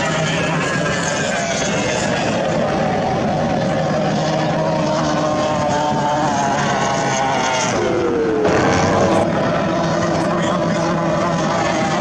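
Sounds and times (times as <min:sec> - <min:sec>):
powerboat engines at high speed: 0:00.0 - 0:12.0.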